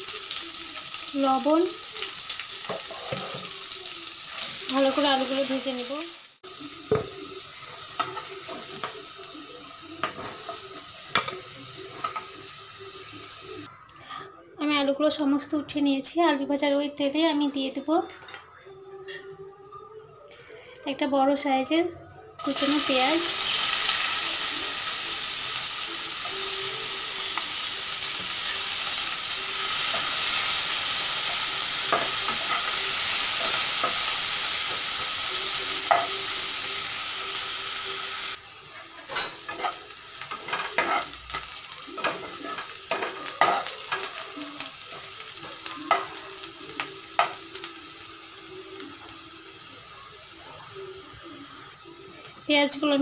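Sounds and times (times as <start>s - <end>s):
onions sizzling in hot oil: 0.0s - 13.7s, 22.4s - 53.0s.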